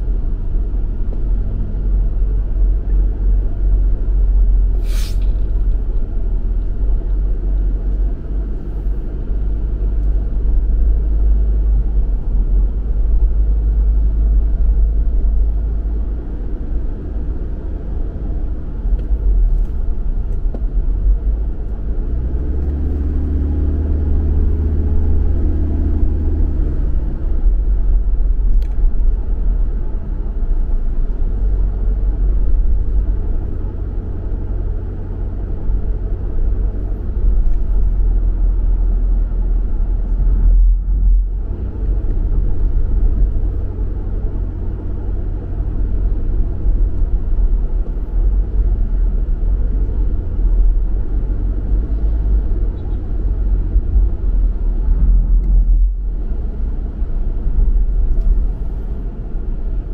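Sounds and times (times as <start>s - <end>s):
car engine and tyre rumble: 0.0s - 59.9s
deep droning hum with tones: 0.0s - 59.9s.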